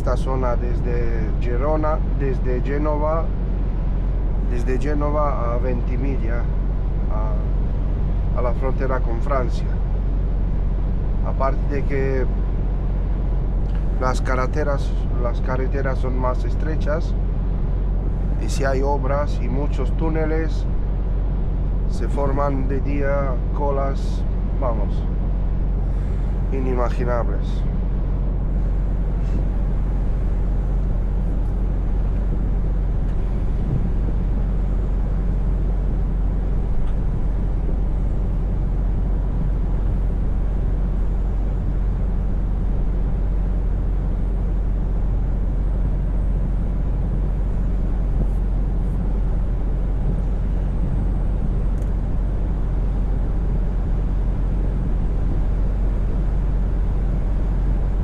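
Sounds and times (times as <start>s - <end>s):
road noise: 0.0s - 58.0s
truck engine droning: 0.0s - 58.0s.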